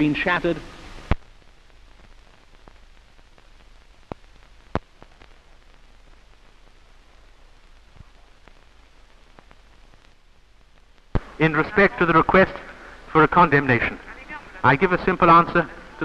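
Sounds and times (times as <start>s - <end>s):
film soundtrack hiss and crackle: 0.0s - 16.0s.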